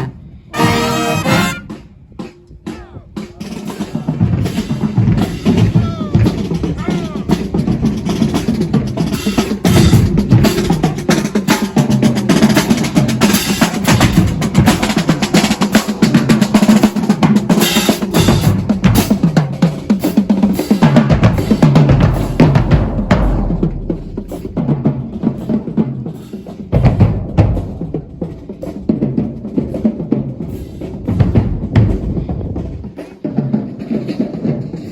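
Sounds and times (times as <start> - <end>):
bass drums: 0.0 - 33.8
snare drums: 0.0 - 34.9.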